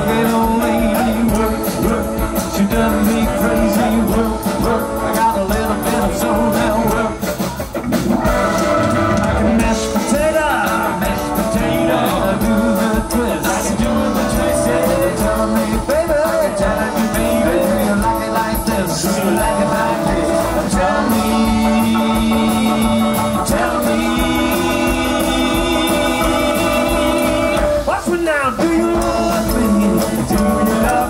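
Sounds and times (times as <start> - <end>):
drum kit: 0.0 - 31.0
electric guitar: 0.0 - 31.0
keyboard: 0.0 - 31.0
upright double bass: 0.0 - 31.0.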